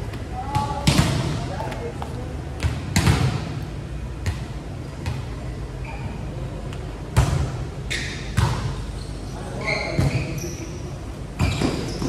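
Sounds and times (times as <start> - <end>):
volleyballs smacking in a gym: 0.0 - 6.0, 6.6 - 9.0, 9.6 - 10.4, 11.4 - 12.0.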